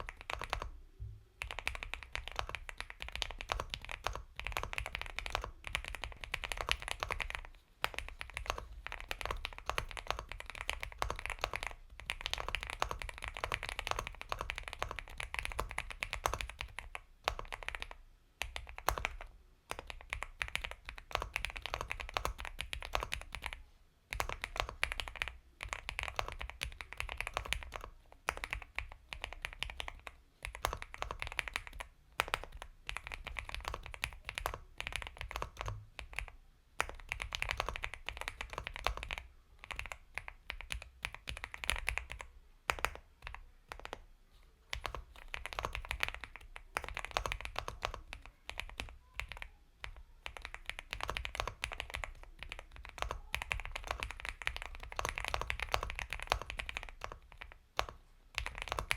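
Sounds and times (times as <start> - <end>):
mechanical keyboard typing: 0.0 - 0.8, 1.4 - 44.0, 44.7 - 58.9.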